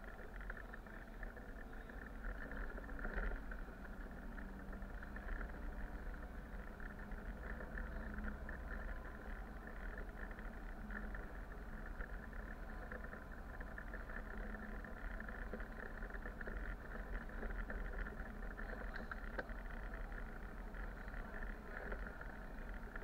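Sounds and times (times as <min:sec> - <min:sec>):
bus engine and tyre drone: 0:00.0 - 0:23.0.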